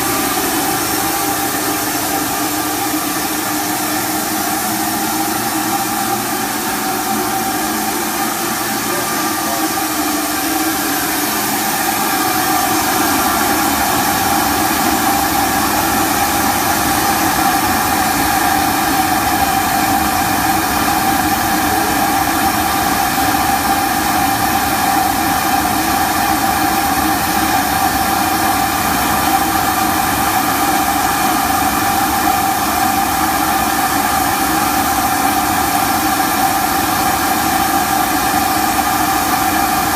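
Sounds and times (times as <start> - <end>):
industrial machine humming: 0.0 - 39.9.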